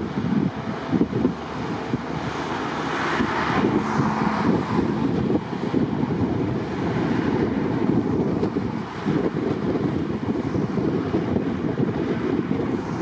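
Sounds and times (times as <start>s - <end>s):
road traffic: 0.0s - 13.0s
train running on viaduct: 0.0s - 13.0s
wind buffeting microphone: 0.0s - 13.0s.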